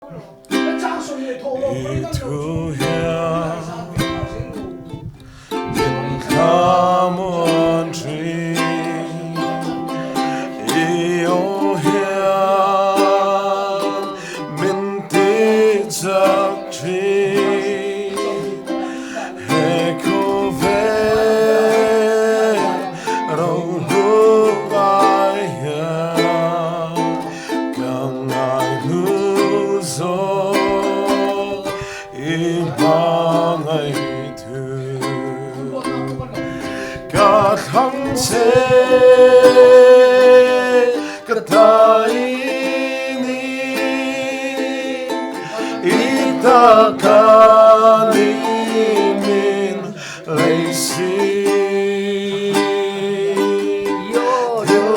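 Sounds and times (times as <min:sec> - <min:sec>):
person singing: 0:00.0 - 0:54.9
plucked strings: 0:00.0 - 0:54.9.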